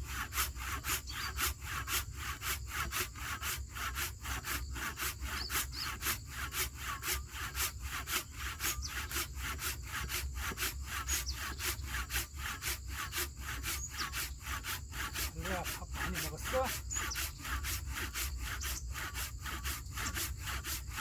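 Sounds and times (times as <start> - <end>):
hand saw cutting wood: 0.0 - 21.0.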